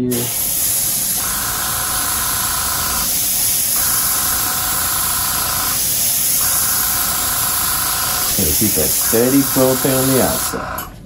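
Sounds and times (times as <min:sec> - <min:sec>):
airbrush spraying paint: 0:00.0 - 0:10.6.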